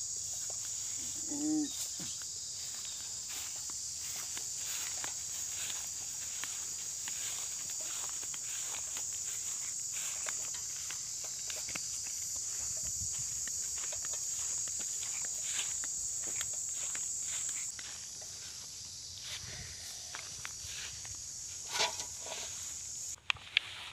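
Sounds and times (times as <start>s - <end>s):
footsteps on dirt path: 0.0s - 23.9s
insects droning: 0.0s - 23.9s
rustling through grass: 0.2s - 23.9s.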